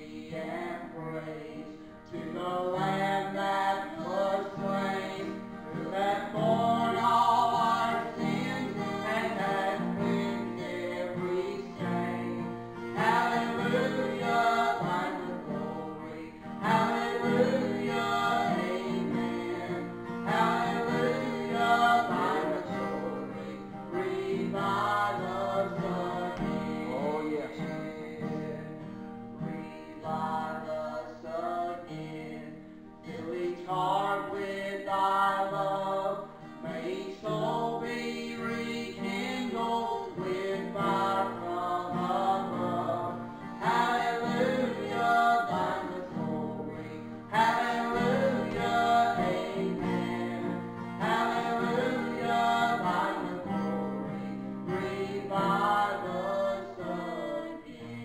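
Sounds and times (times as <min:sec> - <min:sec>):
man and woman singing gospel duet: 0:00.0 - 0:58.0.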